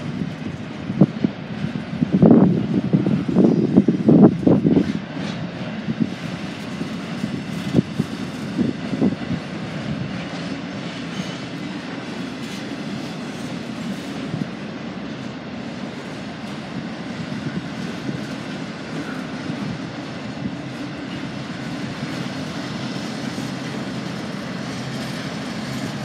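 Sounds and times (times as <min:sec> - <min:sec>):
freight train rumbling past: 0:00.0 - 0:26.0
train wheels clattering: 0:00.0 - 0:26.0.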